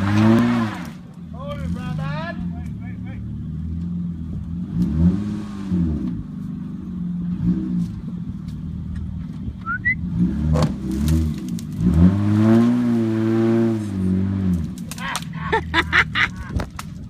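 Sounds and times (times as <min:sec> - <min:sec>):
car engine revving under load: 0:00.0 - 0:16.2.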